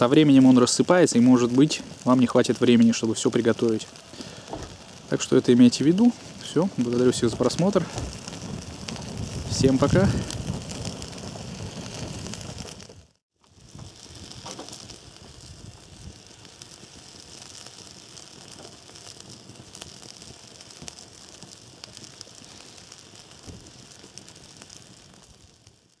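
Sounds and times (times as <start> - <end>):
fire crackles and pops: 0.0 - 26.0
log fire hissing: 0.0 - 26.0.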